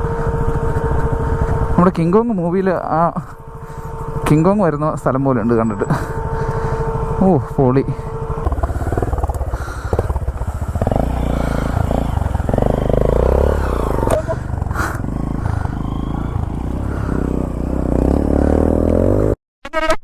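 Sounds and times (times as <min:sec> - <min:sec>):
motorcycle engine running: 0:00.0 - 0:19.4.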